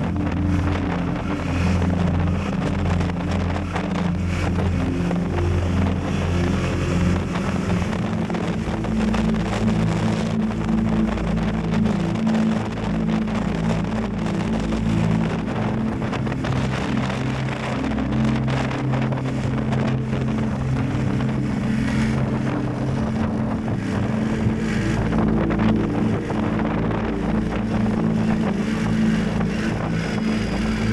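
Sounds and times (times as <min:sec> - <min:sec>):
wind noise on microphone: 0:00.0 - 0:30.9.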